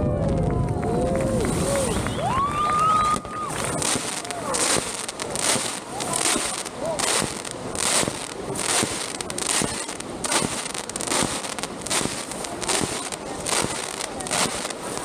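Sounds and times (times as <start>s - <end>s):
fireworks crackling hiss: 1.0s - 15.0s
firework shells bursting: 1.3s - 15.0s.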